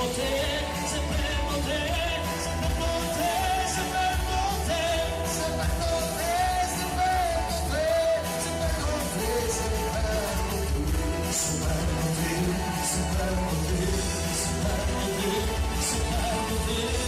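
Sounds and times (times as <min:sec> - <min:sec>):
live pop-rock band with singer: 0:00.0 - 0:17.0.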